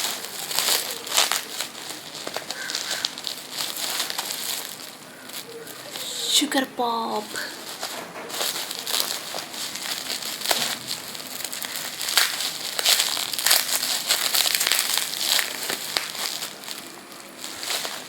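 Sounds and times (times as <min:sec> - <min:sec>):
crinkly packaging unwrapped: 0:00.0 - 0:18.0.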